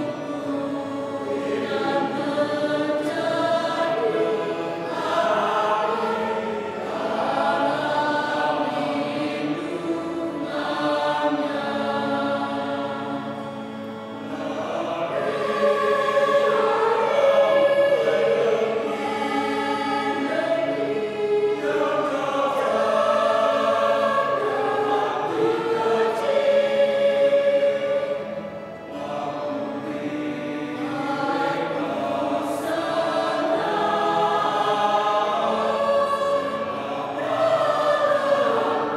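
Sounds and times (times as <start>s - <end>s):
mixed choir singing a hymn: 0.0s - 38.9s.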